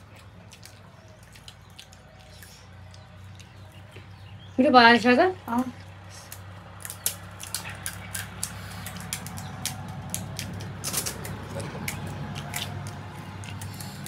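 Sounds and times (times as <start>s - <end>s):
crisp shells crunching and chewing: 0.0s - 4.3s, 5.8s - 14.0s.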